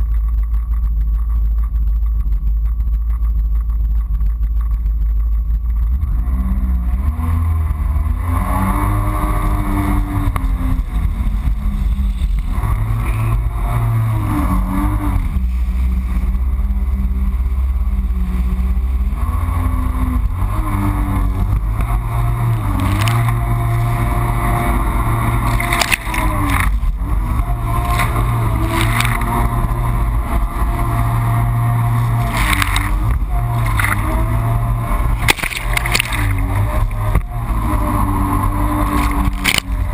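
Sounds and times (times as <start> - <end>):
jet ski engine running hard: 0.0 - 39.9
rumble of wind and water: 0.0 - 39.9.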